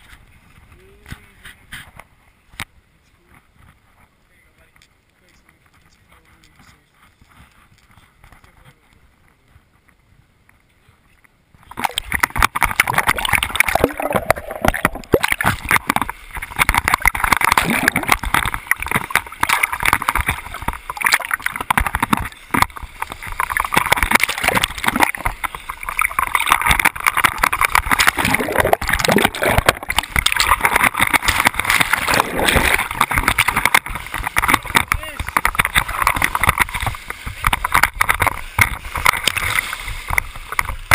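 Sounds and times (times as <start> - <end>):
waves and swimmer splashing: 0.0 - 40.9.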